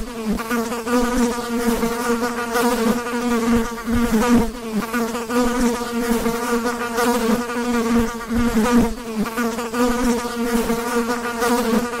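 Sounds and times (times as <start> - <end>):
fly buzzing: 0.0 - 12.0.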